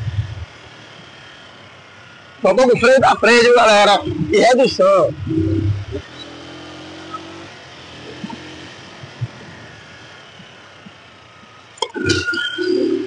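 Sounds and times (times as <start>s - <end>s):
small motorcycle engine: 0.0s - 13.0s
wind and road noise: 0.0s - 13.0s.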